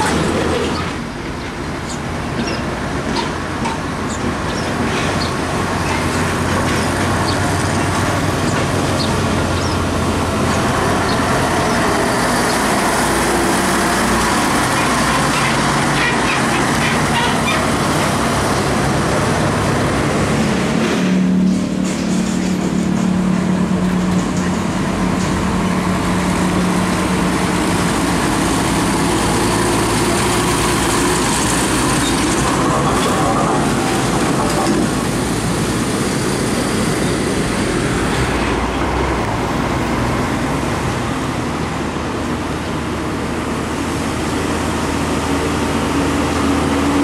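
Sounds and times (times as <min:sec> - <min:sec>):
diesel trucks passing: 0:00.0 - 0:47.0
tyre and road noise: 0:00.0 - 0:47.0.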